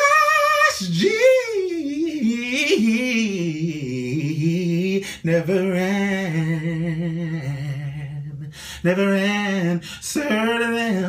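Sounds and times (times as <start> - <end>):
man singing a cappella: 0.0 - 11.0.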